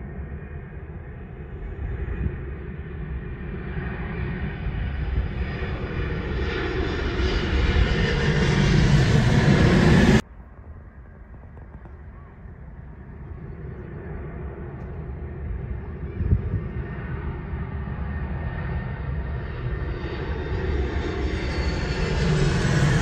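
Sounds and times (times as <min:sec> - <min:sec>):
distant jet airliner: 0:00.0 - 0:23.0
jetliner passing low overhead: 0:00.0 - 0:23.0.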